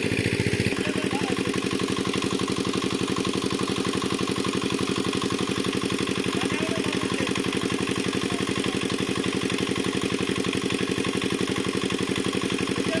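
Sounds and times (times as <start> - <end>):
water pump engine chugging: 0.0 - 13.0.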